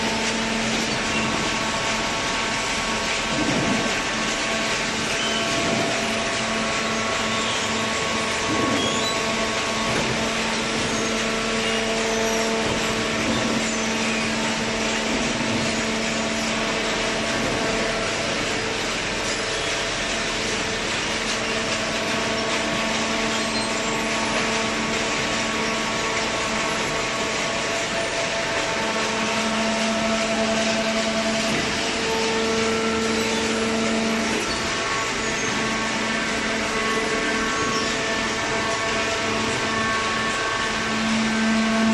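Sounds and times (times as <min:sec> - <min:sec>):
baler motor and pump humming: 0:00.0 - 0:41.9.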